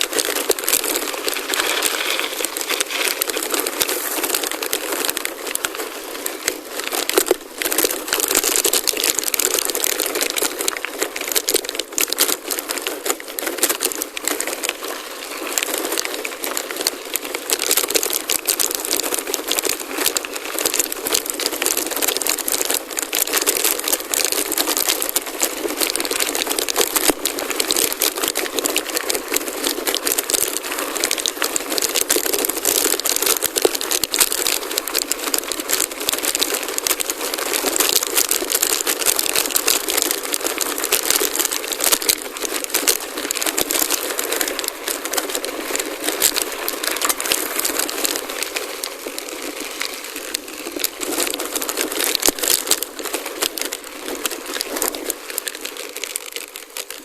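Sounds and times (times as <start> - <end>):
bike rattling: 0.0 - 57.0
bike tyres crunching on gravel: 0.0 - 57.0.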